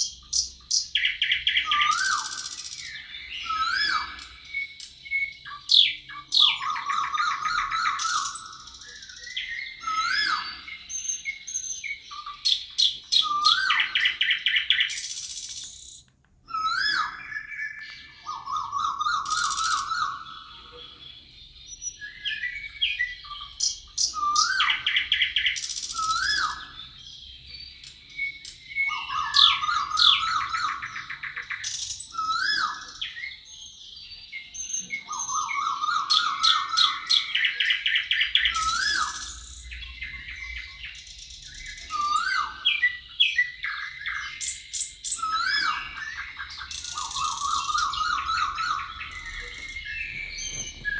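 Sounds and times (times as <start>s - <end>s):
wild birds singing: 0.0s - 50.9s.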